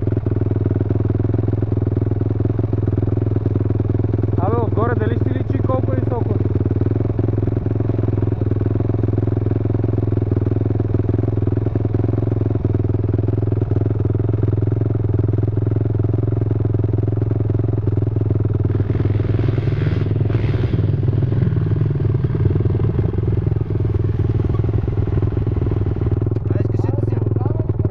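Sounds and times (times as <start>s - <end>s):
atv engine idling: 0.0s - 27.9s.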